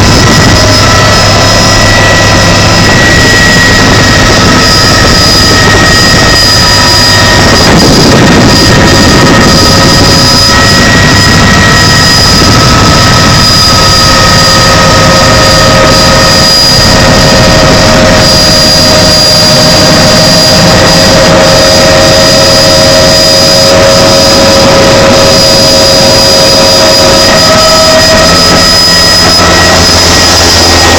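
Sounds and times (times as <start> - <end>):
helicopter engine and rotor: 0.0 - 30.9
high steady whine: 0.0 - 30.9.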